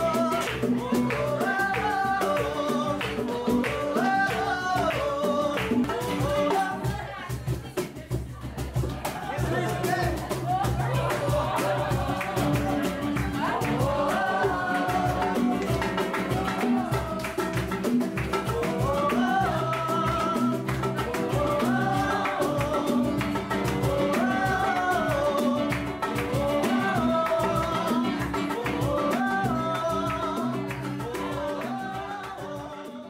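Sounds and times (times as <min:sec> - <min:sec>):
person singing: 0:00.0 - 0:07.3, 0:09.2 - 0:33.0
hand percussion beat: 0:00.0 - 0:33.0.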